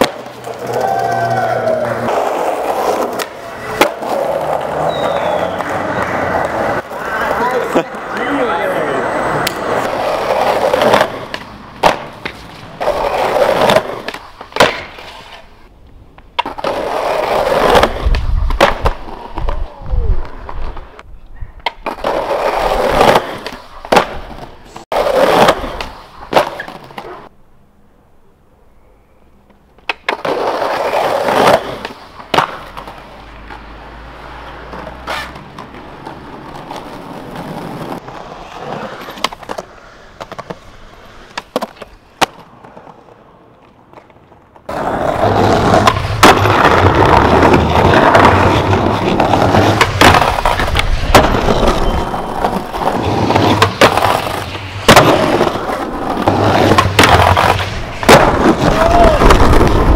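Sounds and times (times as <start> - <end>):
skateboard clacking on ground: 0.0 - 15.5, 16.1 - 27.3, 29.4 - 33.6, 34.6 - 59.9
skateboard wheels rolling on asphalt: 0.0 - 59.9.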